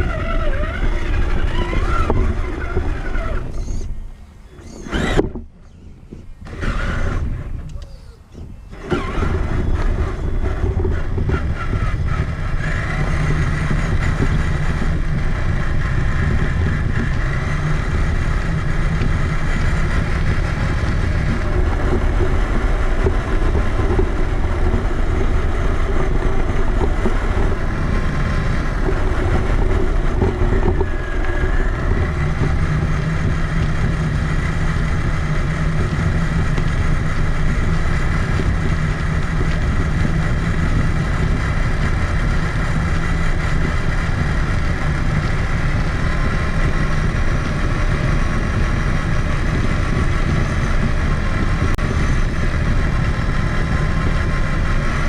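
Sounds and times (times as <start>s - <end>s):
chassis and tyres rumbling: 0.0s - 55.0s
electric motor and gear whine: 0.0s - 55.0s.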